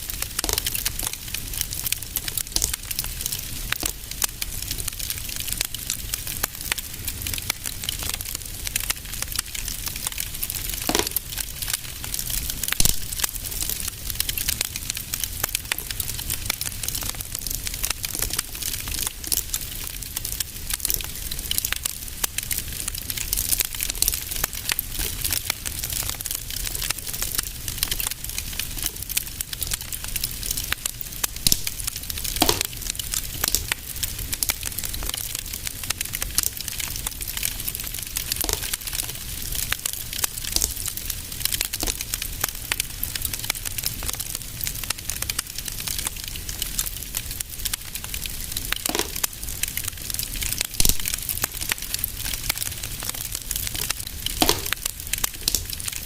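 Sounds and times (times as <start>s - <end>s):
sharp fire snap: 0.0s - 19.6s, 24.0s - 43.4s, 47.6s - 56.0s
fire crackling with small pops: 0.0s - 56.0s
low fire rumble: 0.0s - 56.0s.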